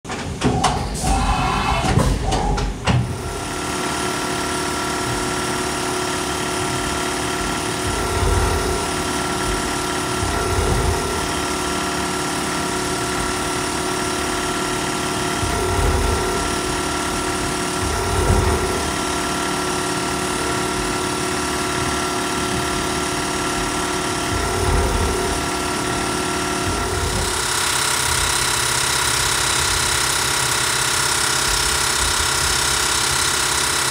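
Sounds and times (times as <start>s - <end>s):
loud clatters: 4.4s - 33.9s.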